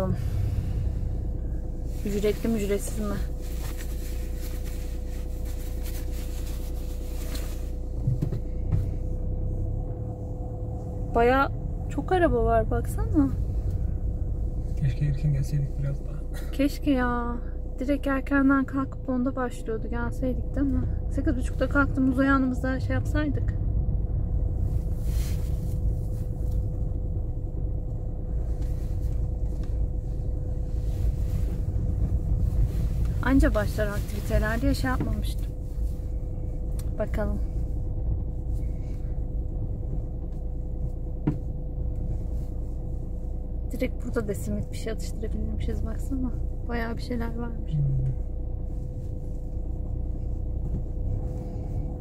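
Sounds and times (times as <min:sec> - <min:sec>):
car engine and road rumble: 0:00.0 - 0:52.0
faint steady hum: 0:00.0 - 0:52.0
soft low bumps: 0:00.0 - 0:52.0.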